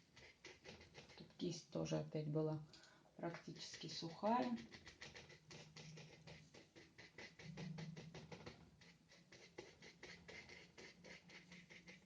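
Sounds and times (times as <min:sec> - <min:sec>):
paintbrush scratching on paper: 0:00.0 - 0:01.6, 0:03.3 - 0:12.0.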